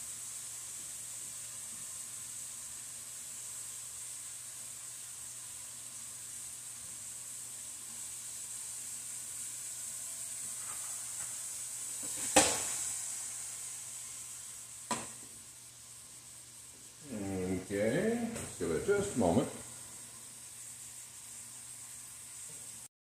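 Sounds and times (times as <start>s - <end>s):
meat sizzling in a frying pan: 0.0s - 22.9s.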